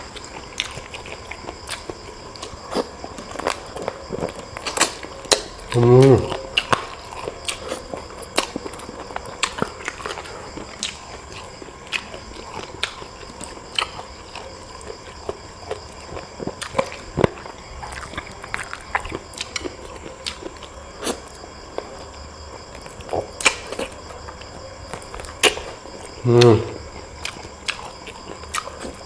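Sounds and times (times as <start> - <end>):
person chewing and biting: 0.0 - 22.1, 22.7 - 29.0.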